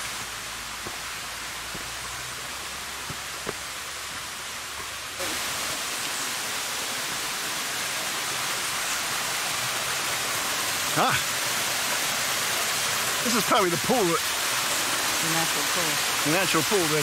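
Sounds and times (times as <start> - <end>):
creek and waterfall rushing: 0.0 - 17.0.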